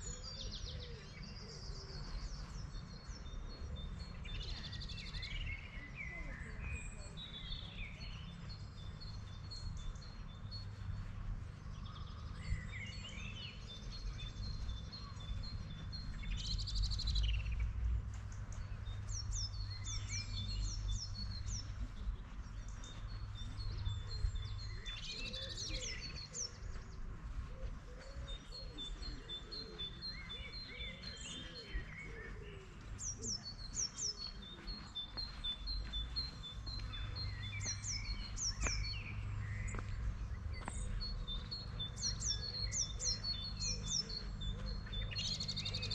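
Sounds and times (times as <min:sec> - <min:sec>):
songbirds singing: 0:00.0 - 0:45.9.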